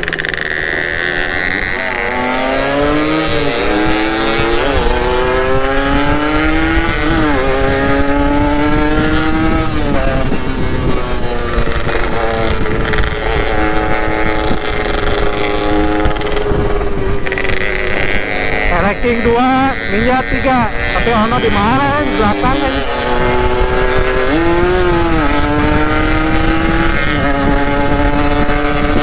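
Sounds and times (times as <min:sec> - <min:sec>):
motorcycle engine shifting gears: 0:00.0 - 0:29.0.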